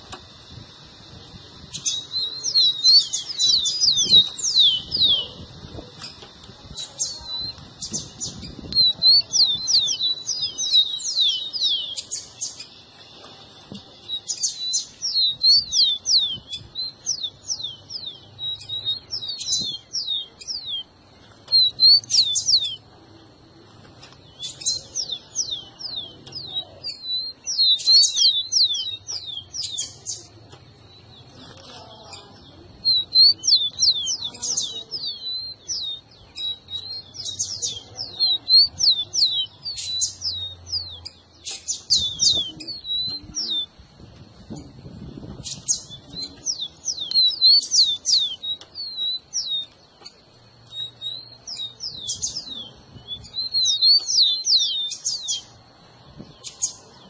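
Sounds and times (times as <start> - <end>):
sparrows singing: 0.0 - 57.0.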